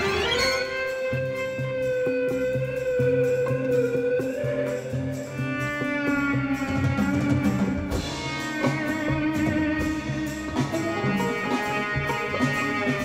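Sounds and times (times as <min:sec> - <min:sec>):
band and orchestra playing rock: 0:00.0 - 0:13.0
steady drum beat: 0:00.0 - 0:13.0.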